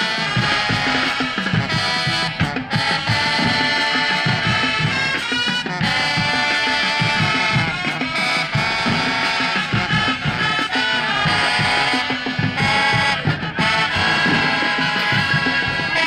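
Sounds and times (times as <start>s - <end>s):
brass horns playing a tune: 0.0s - 16.0s
marching drumline beat: 0.0s - 16.0s.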